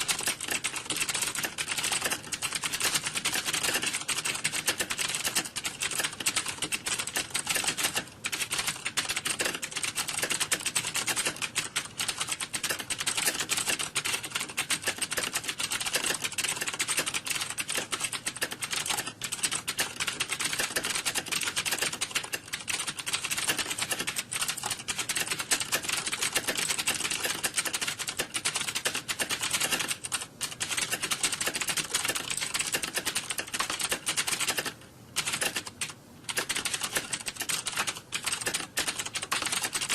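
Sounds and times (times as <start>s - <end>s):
many keyboards typing: 0.0s - 39.9s.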